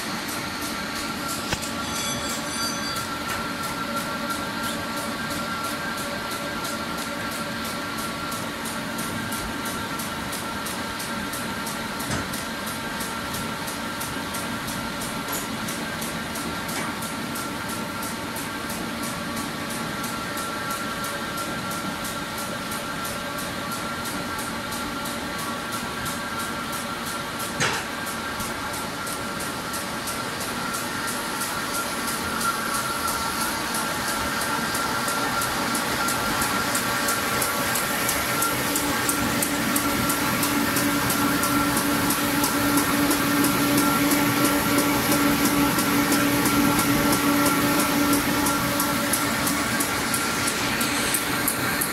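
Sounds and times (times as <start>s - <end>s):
machine mechanical hum: 0.0s - 51.9s.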